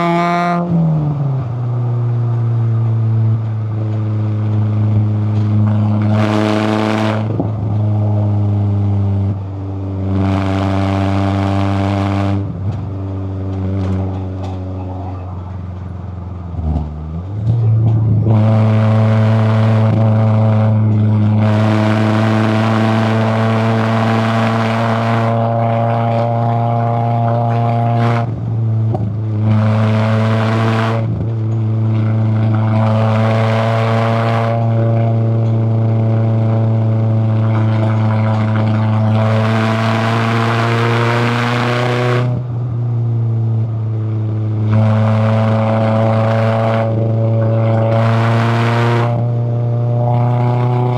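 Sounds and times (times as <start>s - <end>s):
car engine pulling: 0.0s - 50.9s.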